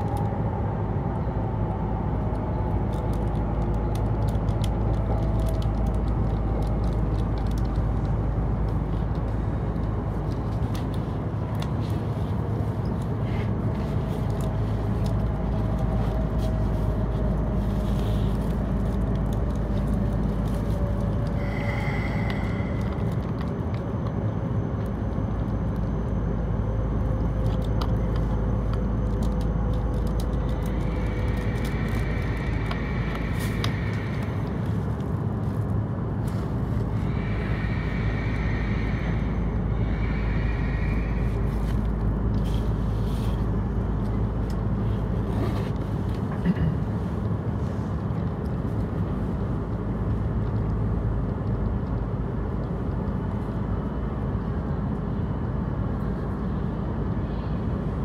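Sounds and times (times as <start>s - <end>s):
train low hum: 0.0s - 58.0s.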